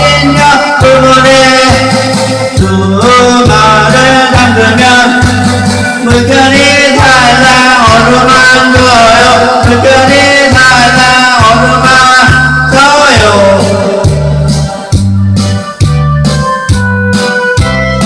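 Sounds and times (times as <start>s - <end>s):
children's song melody: 0.0s - 18.0s
repeating bass pattern: 0.0s - 18.0s.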